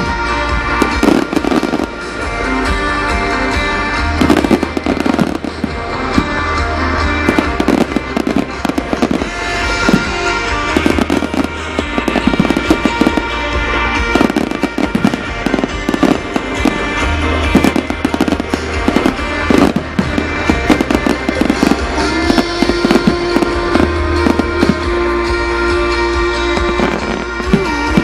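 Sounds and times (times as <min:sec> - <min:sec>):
fireworks bangs and crackles: 0:00.0 - 0:28.0
music: 0:00.0 - 0:28.0.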